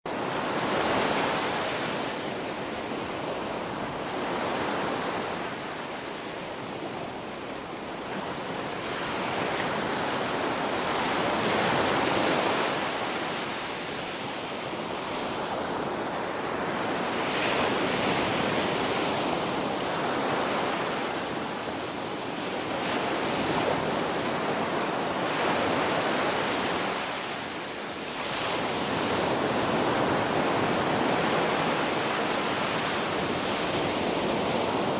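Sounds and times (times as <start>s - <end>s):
sea waves breaking on beach: 0.1s - 34.9s.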